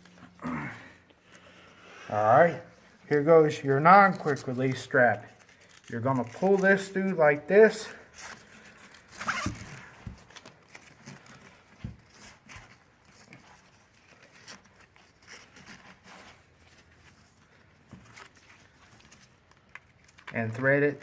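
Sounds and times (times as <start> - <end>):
webbing strap rustling and scraping: 0.0 - 21.0.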